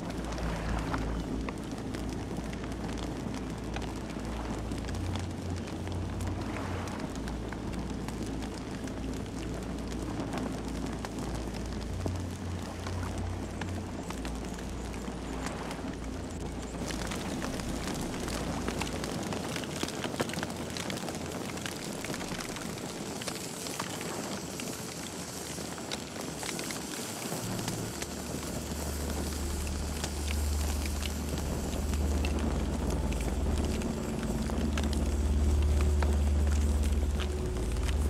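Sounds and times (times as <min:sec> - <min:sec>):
campfire crackling and popping: 0:00.0 - 0:38.0
hiss of burning wood: 0:00.0 - 0:38.0
low rumble: 0:00.0 - 0:38.0.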